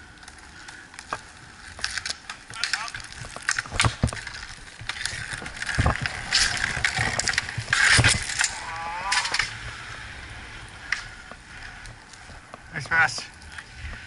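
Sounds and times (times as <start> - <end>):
skate wheels rolling on asphalt: 0.0 - 14.0
hockey sticks clacking: 0.6 - 14.0.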